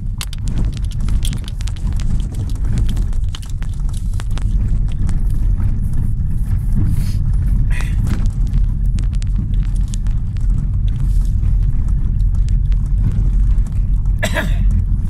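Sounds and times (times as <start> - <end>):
car tyres and engine rumble: 0.0 - 15.0
scattered clicks: 0.0 - 15.0.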